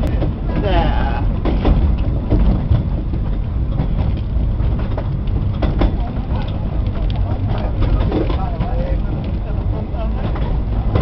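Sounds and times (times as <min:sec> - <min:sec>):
train carriage rumbling: 0:00.0 - 0:11.0
wheels clicking on track: 0:00.0 - 0:11.0.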